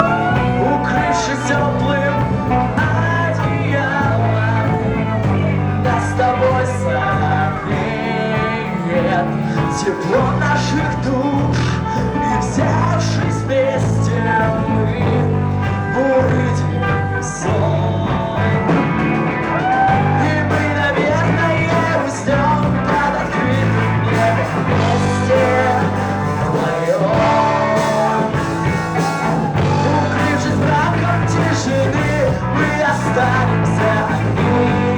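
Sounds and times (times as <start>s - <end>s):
person singing: 0.0s - 34.9s
repeating bass line: 0.0s - 34.9s
rock band playing live: 0.0s - 34.9s.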